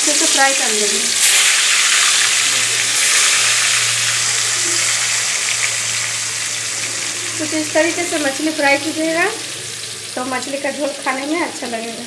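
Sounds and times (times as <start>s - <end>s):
fish sizzling in hot oil: 0.0s - 12.0s
low steady hum: 0.8s - 11.9s.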